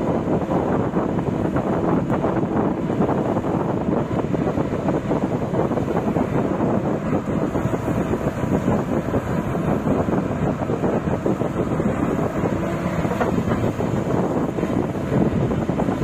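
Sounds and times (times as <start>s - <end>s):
excavator rumbling: 0.0s - 16.0s
wind buffeting microphone: 0.0s - 16.0s.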